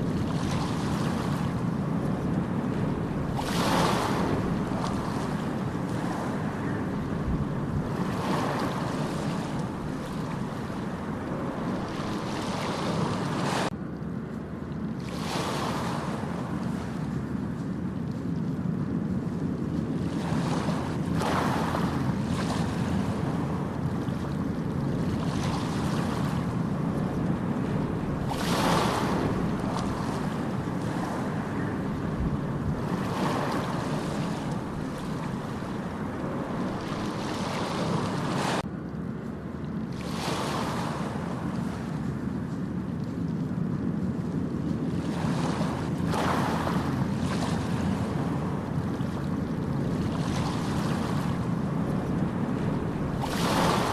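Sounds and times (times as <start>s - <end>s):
waves breaking on beach: 0.0s - 13.8s, 14.8s - 38.7s, 39.7s - 53.9s
low rumble of water: 0.0s - 53.9s.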